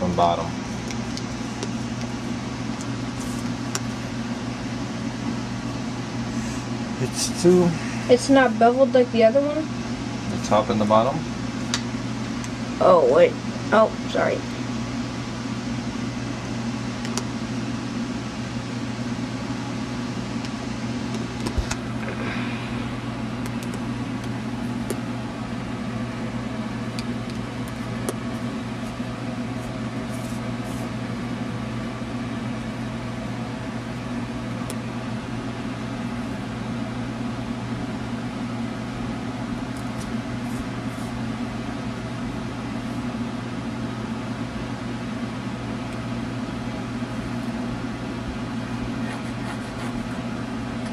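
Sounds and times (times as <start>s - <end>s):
steady mechanical hum: 0.0s - 50.9s.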